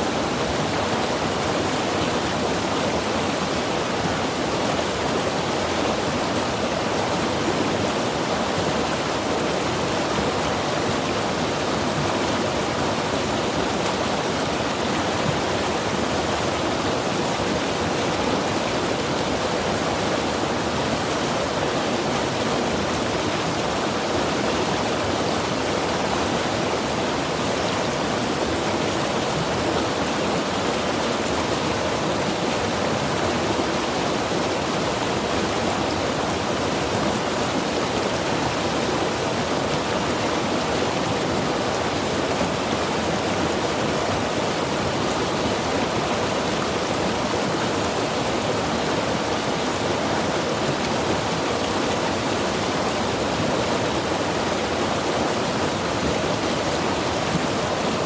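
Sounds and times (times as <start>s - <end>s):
river rushing over rocks: 0.1s - 58.0s.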